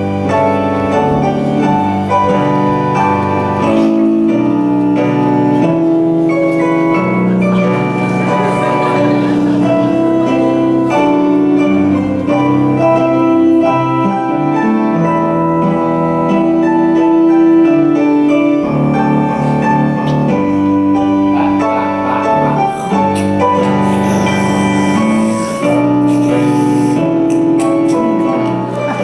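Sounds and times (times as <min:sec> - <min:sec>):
keyboard playing slow chords: 0:00.0 - 0:29.0.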